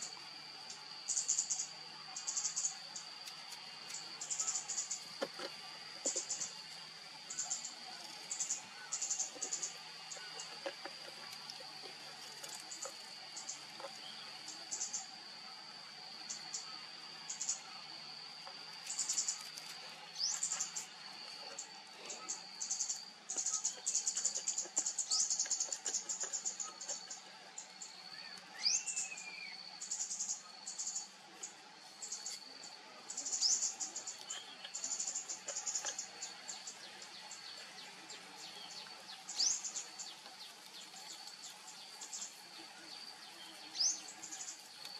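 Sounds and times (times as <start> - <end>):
insects chirping rapidly: 0.0 - 44.9
insects droning: 0.0 - 44.9
bird calls: 1.1 - 15.2, 16.3 - 44.9.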